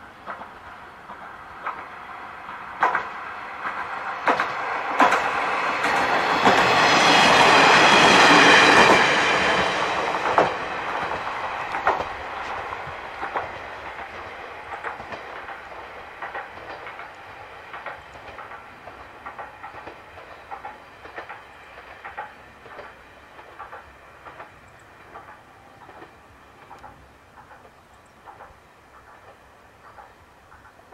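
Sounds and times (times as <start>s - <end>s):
diesel railcar engine passing: 0.0s - 30.9s
wheels clacking over rail joints: 0.1s - 30.9s.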